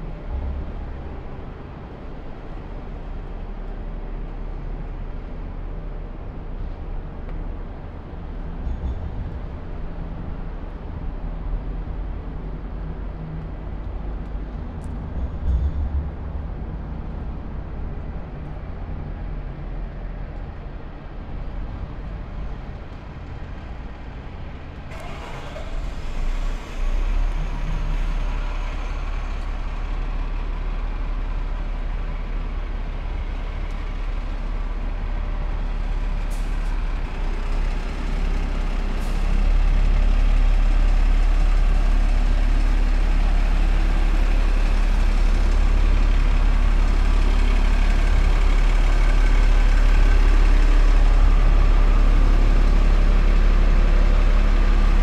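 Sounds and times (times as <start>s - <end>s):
bus engines rumbling: 0.0s - 55.0s
traffic noise: 0.0s - 55.0s.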